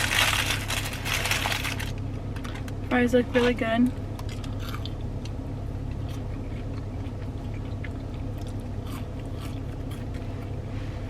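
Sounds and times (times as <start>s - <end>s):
chewing crispy fries: 0.0s - 2.8s, 4.1s - 10.8s
steady low hum: 0.0s - 11.0s.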